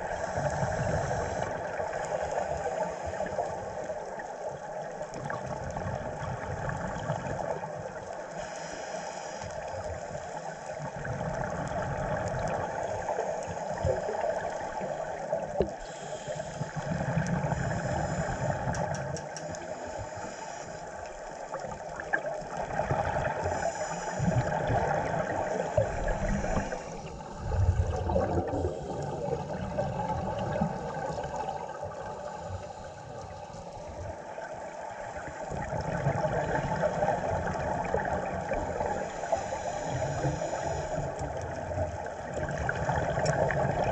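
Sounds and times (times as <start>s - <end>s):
underwater rushing: 0.0s - 43.9s.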